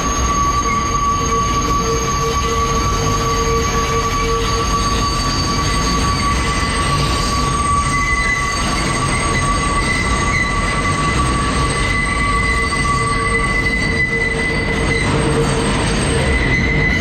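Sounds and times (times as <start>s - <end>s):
subway wheels squealing: 0.0s - 17.0s
wheels rumbling on tracks: 0.0s - 17.0s.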